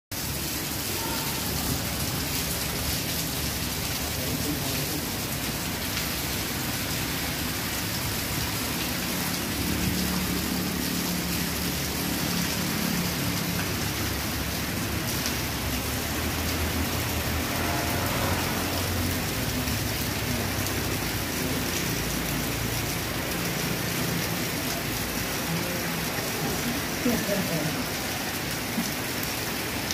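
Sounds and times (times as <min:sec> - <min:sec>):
heavy rain on flooded ground: 0:00.1 - 0:29.9.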